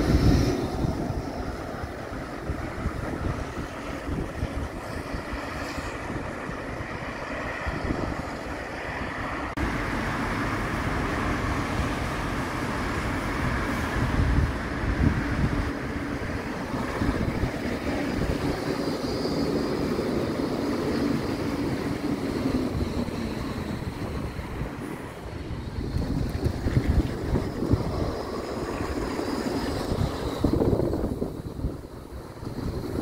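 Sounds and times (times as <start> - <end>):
tram wheels rumbling on rail: 0.0 - 33.0.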